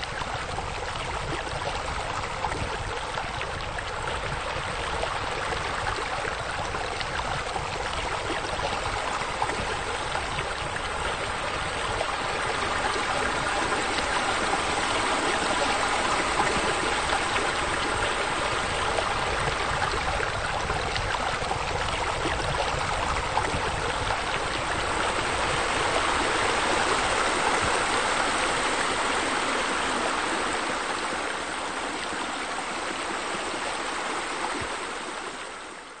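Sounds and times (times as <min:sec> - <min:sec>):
running splashing water: 0:00.0 - 0:36.0.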